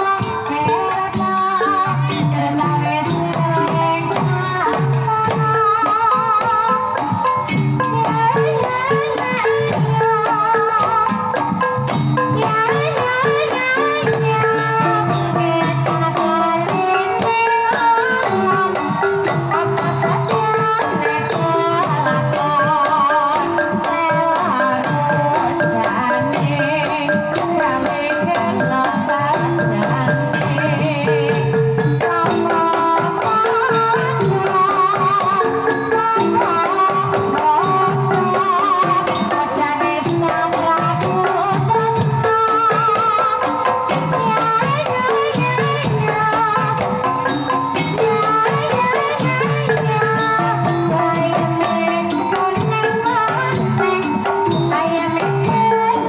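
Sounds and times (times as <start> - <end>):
hand drum beating: 0.0 - 56.0
woman singing with vibrato: 0.0 - 56.0.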